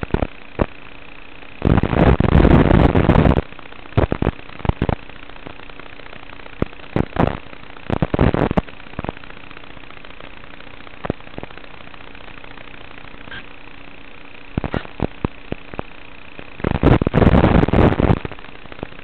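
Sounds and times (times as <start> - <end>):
static crackling: 0.0 - 19.0
steady hiss and hum: 0.0 - 19.0.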